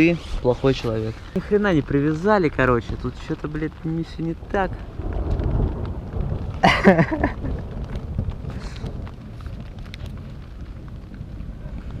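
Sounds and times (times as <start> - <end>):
low rumble: 0.0 - 12.0
rain on a tent: 0.0 - 12.0.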